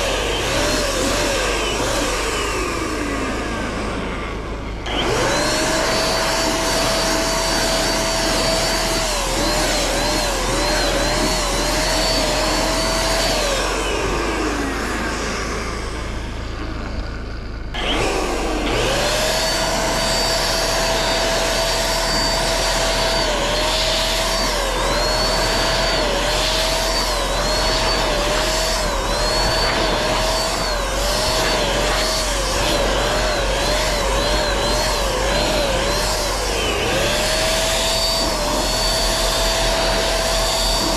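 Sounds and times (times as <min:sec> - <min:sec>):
electric paint sprayer whining: 0:00.0 - 0:40.9
sprayer spinning up: 0:00.0 - 0:40.9
sprayer winding down: 0:00.0 - 0:40.9.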